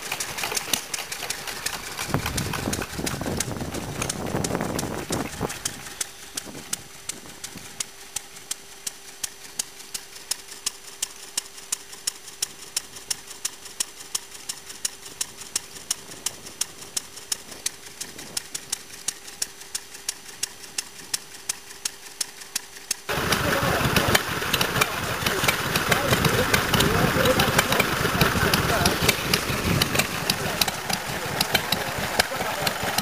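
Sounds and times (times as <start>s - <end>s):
loud air-cooled engine driving pump: 0.0s - 33.0s
stationary engine pumping water: 0.0s - 33.0s.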